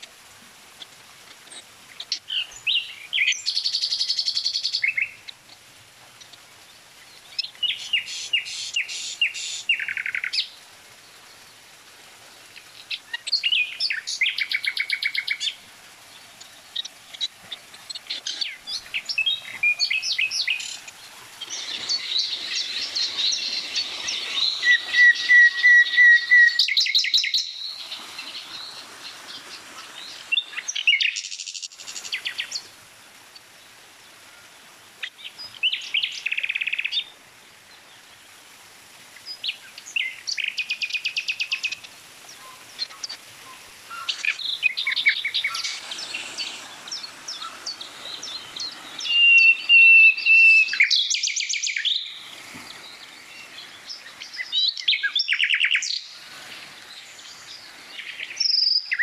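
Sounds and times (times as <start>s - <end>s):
songbirds chirping and singing: 1.3s - 32.7s, 39.2s - 59.0s.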